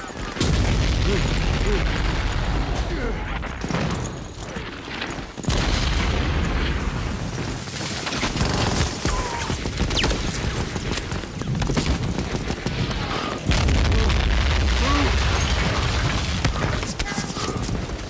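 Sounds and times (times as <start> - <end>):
low booming explosions: 0.0 - 18.0
rifle and machine-gun fire: 0.0 - 18.0.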